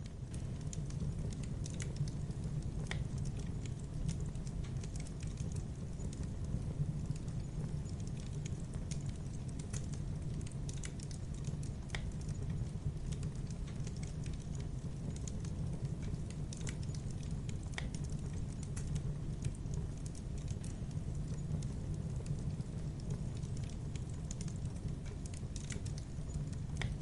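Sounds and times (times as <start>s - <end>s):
campfire crackles and pops: 0.0s - 27.0s
low rumble of flames: 0.0s - 27.0s.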